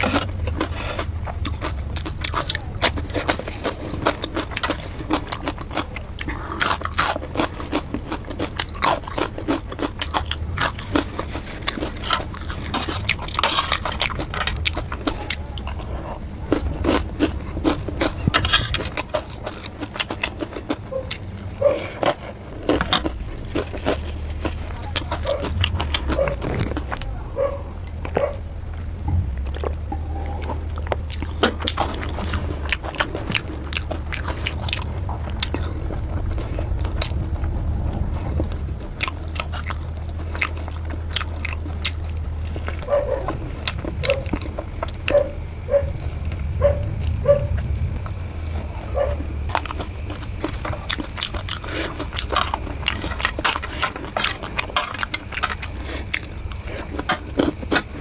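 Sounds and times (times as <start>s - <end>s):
biting and chewing food: 0.0s - 58.0s
steady low hum: 0.0s - 58.0s.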